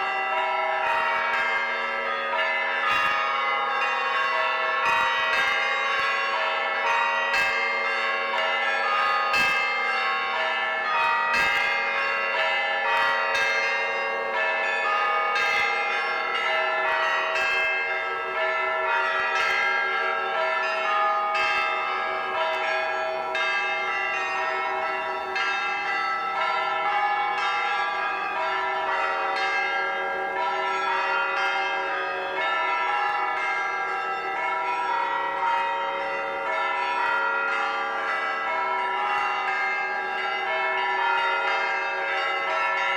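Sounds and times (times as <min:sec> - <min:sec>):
church bells ringing: 0:00.0 - 0:42.9.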